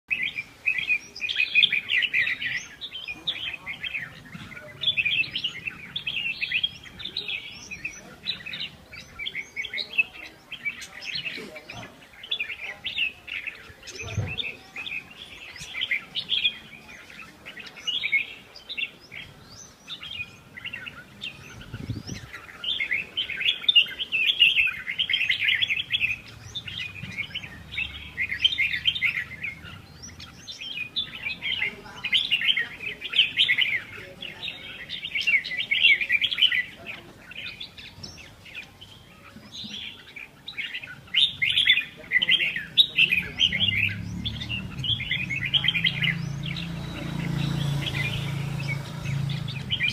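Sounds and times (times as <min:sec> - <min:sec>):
small birds chirping and twittering: 0:00.0 - 0:49.9.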